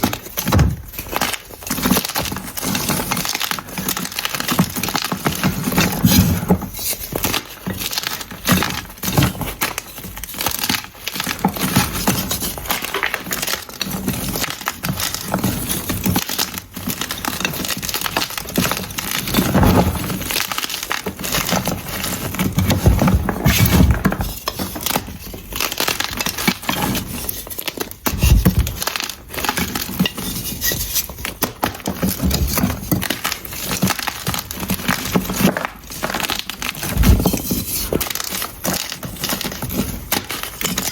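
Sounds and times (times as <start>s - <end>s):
chalk blocks crunching: 0.0s - 40.9s.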